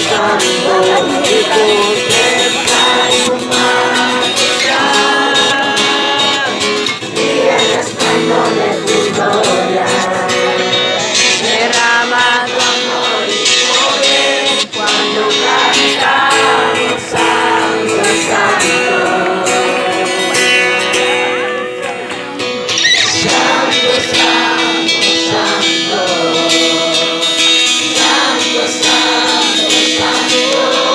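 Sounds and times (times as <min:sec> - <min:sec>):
acoustic guitar: 0:00.0 - 0:30.9
person singing: 0:00.0 - 0:30.9.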